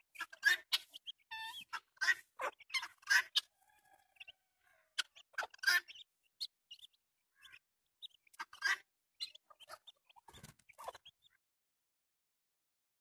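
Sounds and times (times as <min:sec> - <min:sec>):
chicks and hens peeping: 0:00.0 - 0:11.4.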